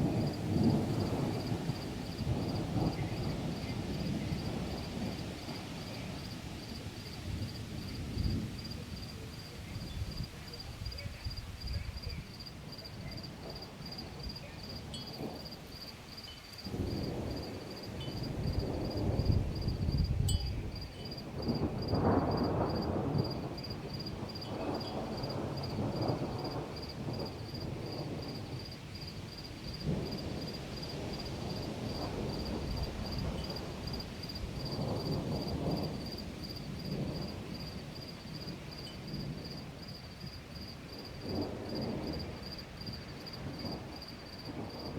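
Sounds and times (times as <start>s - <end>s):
cricket chirping: 0.0s - 44.9s
distant thunder rumbling: 0.0s - 44.9s.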